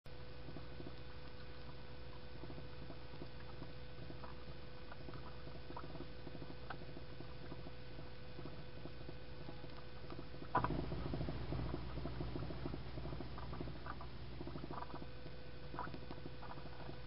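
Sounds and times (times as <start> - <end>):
faint steady tone: 0.1 - 17.0
low hum: 0.1 - 17.0
light clicks and ticks: 0.4 - 17.0.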